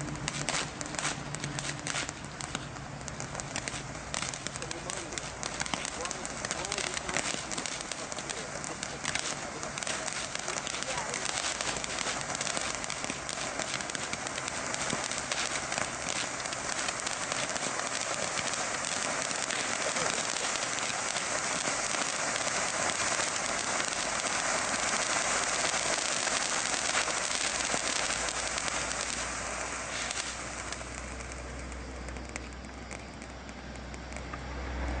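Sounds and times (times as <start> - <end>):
firework fountain hissing and crackling: 0.0 - 35.0.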